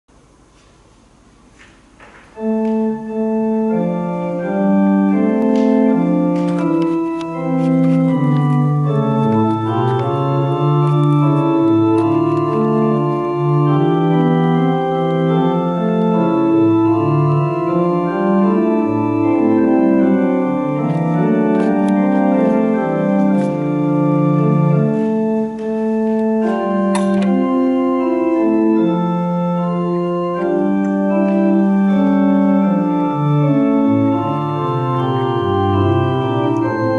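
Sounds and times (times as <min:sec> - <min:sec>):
organ playing slow chords: 0:00.2 - 0:36.9.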